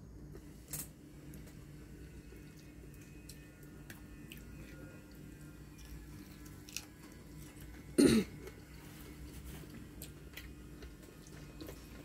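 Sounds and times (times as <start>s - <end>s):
steady low hum: 0.0s - 12.0s
person chewing: 2.3s - 12.0s.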